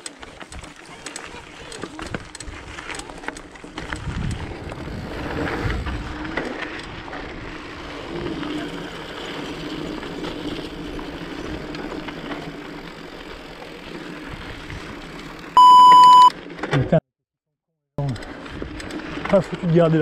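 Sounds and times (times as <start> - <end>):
bike tyre and drivetrain noise: 0.0 - 17.0, 18.0 - 20.0.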